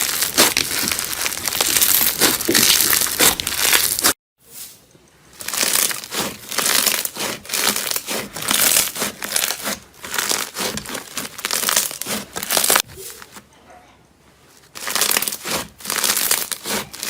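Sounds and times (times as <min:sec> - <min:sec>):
slime squished by hand crackling: 0:00.0 - 0:04.1, 0:05.4 - 0:12.9, 0:14.8 - 0:17.0.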